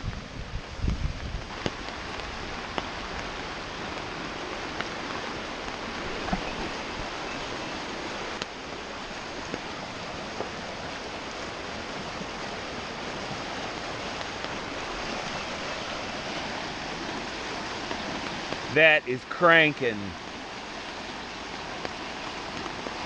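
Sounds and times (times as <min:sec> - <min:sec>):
creek rushing: 0:00.0 - 0:23.0.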